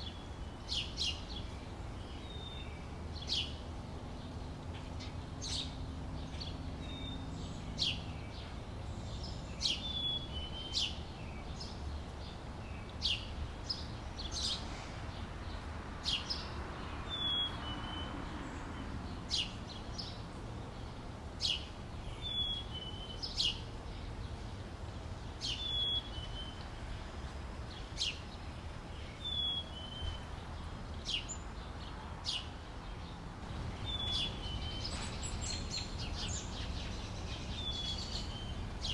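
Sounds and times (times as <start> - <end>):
birds chirping: 0.0 - 26.8, 27.7 - 38.9.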